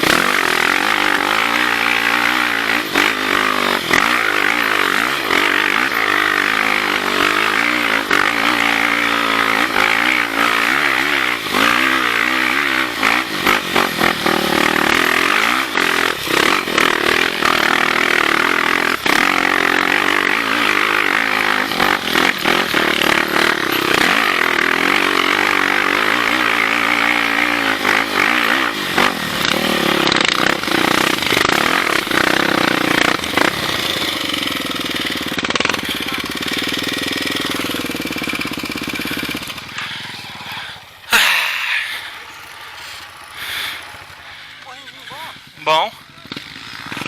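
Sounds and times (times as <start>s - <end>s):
off-road motorcycle engine revving: 0.0s - 47.0s.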